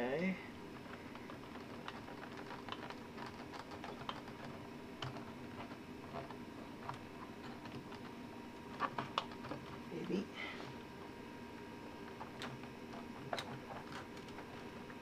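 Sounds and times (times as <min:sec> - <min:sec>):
faint steady hum: 0:00.0 - 0:15.0
wire connectors clicking and rattling: 0:00.2 - 0:10.2, 0:12.0 - 0:15.0.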